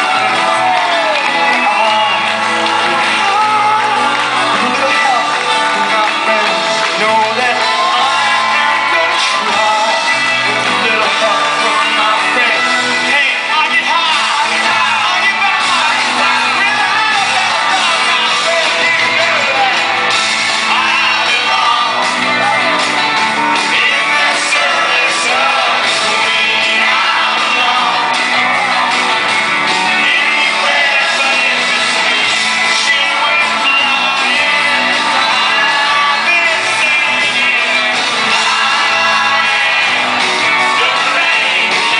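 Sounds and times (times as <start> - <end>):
lead vocal singing: 0.0 - 41.9
live rock band playing: 0.0 - 41.9.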